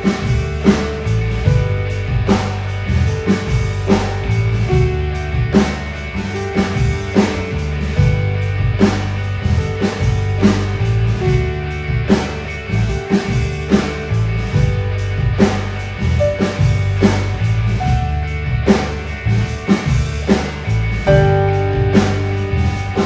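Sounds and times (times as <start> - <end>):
bass line: 0.0 - 23.0
drum kit beat: 0.0 - 23.0
held guitar notes: 0.0 - 23.0.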